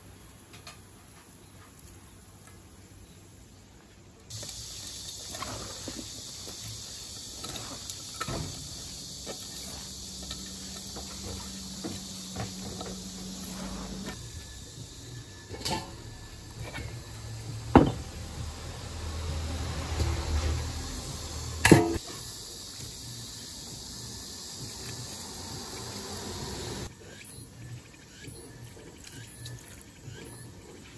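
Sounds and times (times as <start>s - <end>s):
steady high hiss: 0.0s - 28.6s.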